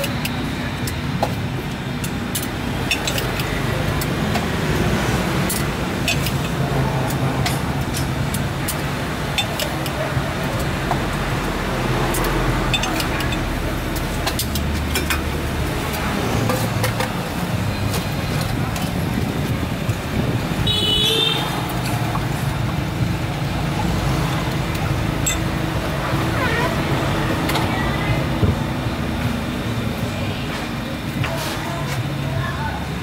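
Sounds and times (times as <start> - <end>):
vehicle engines running: 0.0 - 33.0.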